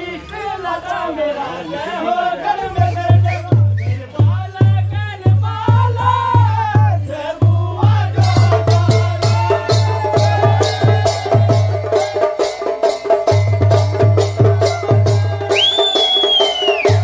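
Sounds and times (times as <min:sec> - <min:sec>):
deep drum beats: 0:02.8 - 0:17.0.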